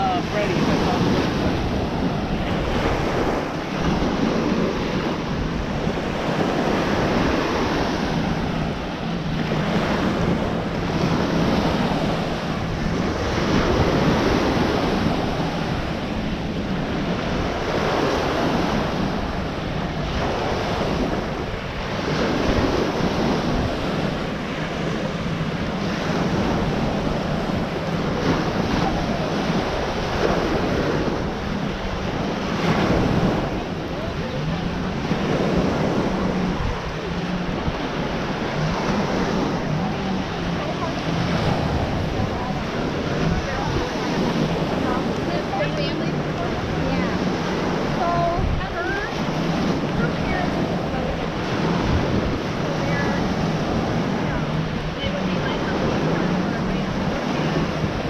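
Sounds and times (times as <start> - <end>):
waves breaking on sandy shore: 0.0 - 58.0
wind buffeting microphone: 0.0 - 58.0.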